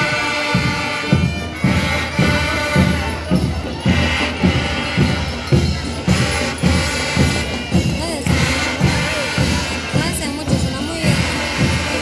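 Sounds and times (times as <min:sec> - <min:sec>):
marching band held notes: 0:00.0 - 0:12.0
steady drum beat: 0:00.0 - 0:12.0.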